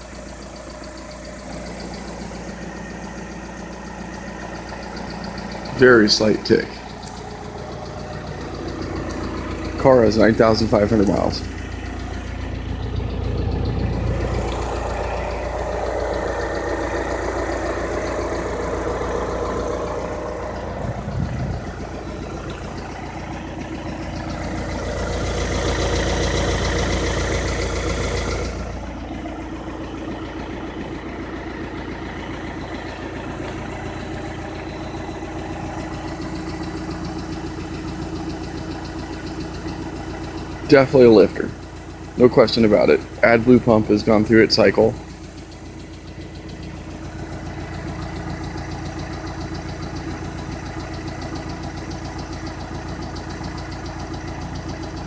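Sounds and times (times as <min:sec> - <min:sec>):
diesel engine idling with tick: 0:00.0 - 0:55.0.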